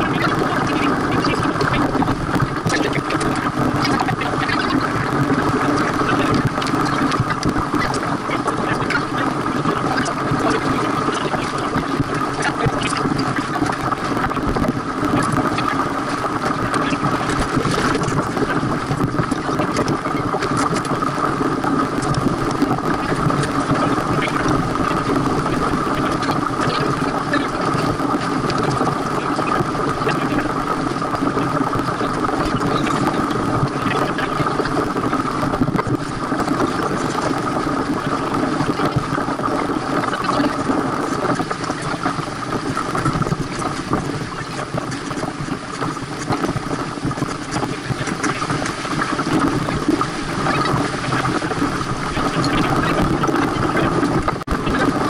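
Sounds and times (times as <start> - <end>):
rush of wind and water: 0.0 - 55.0.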